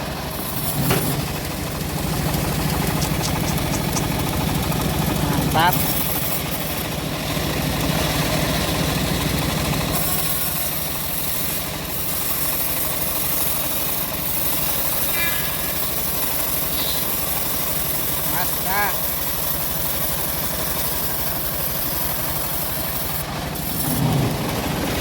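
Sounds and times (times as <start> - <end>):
bandsaw sawmill engine drone: 0.0 - 25.0.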